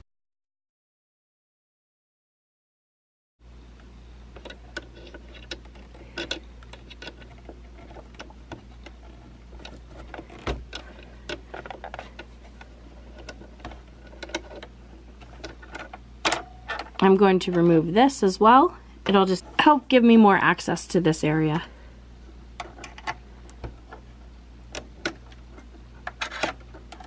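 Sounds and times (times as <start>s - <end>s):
steady low hum: 3.4s - 27.0s.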